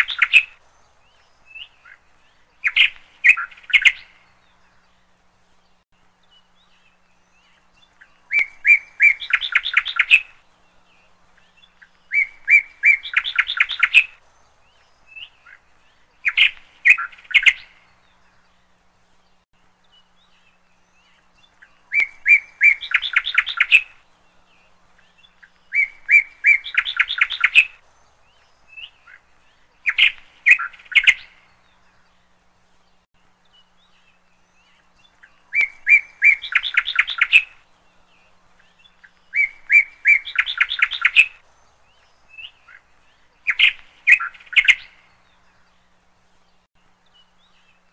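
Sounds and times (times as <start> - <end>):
songbird chirping and trilling: 0.0 - 47.9.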